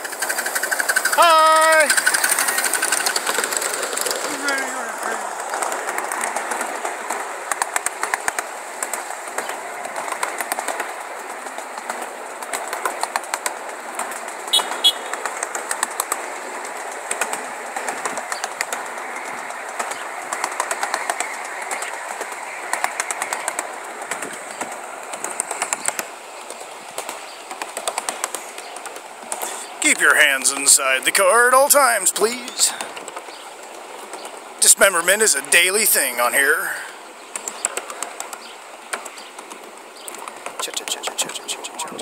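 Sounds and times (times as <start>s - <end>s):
miniature train rumbling: 0.0s - 42.0s
wheels clacking on rails: 0.0s - 42.0s.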